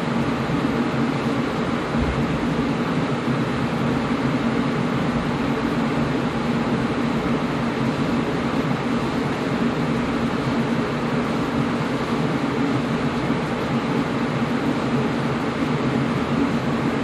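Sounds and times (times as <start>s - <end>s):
air conditioner blowing air: 0.0s - 17.0s
low constant hum: 0.0s - 17.0s.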